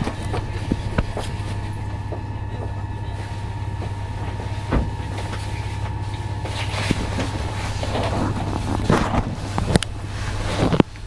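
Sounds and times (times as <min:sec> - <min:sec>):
train motor drone and whine: 0:00.0 - 0:11.0.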